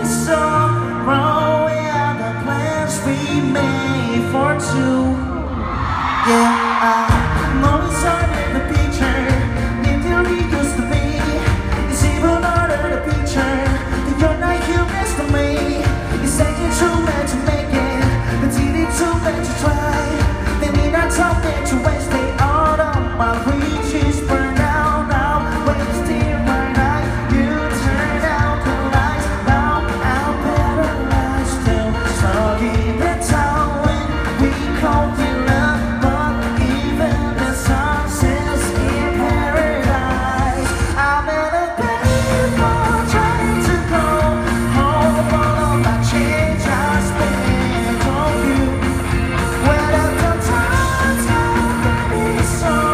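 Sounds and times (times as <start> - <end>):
drums: 0.0 - 52.9
guitar: 0.0 - 52.9
man singing: 0.0 - 52.9.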